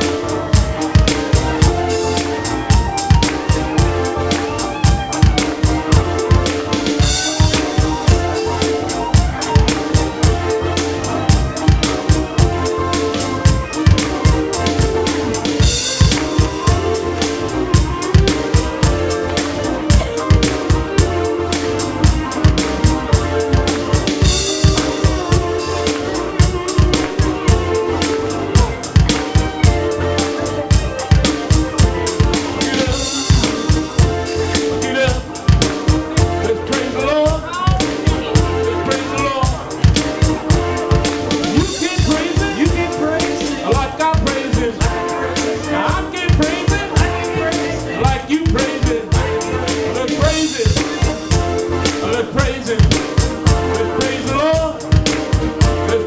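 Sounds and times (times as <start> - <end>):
drum kit kick and snare: 0.0 - 56.0
gospel band playing instrumental: 0.0 - 56.0
person singing: 0.0 - 56.0.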